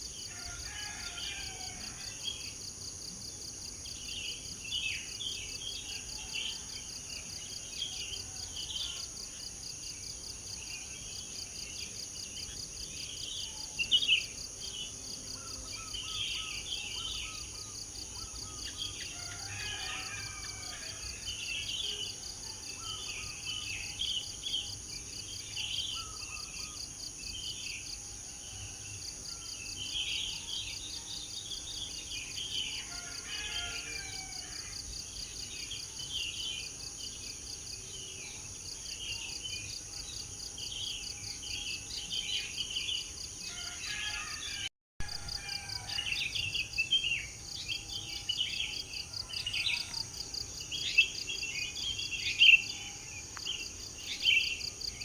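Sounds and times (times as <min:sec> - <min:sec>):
insect chorus trilling: 0:00.0 - 0:55.0
songbirds chirping and warbling: 0:00.0 - 0:55.0.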